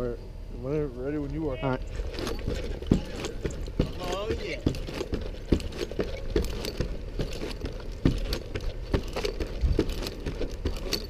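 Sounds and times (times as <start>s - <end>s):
climbing spikes knocking into wood: 2.1s - 11.0s.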